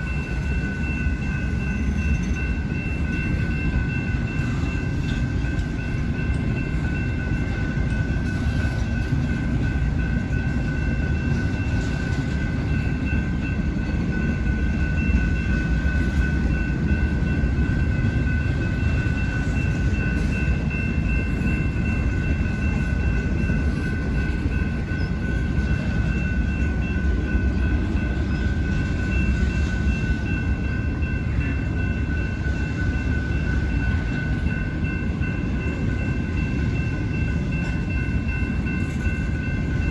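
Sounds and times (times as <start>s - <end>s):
freight train cars rumbling: 0.0s - 39.9s
high-pitched ringing tone: 0.0s - 39.9s.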